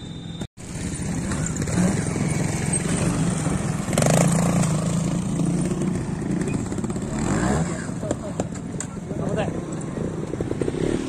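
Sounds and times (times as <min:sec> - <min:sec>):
motorcycle engine revving: 0:00.6 - 0:11.0.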